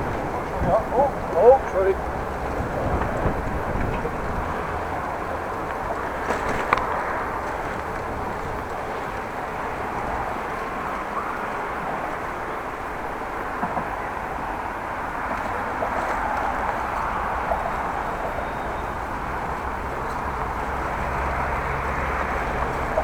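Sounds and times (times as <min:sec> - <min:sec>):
traffic noise: 0:00.0 - 0:23.0
wind: 0:00.0 - 0:23.0.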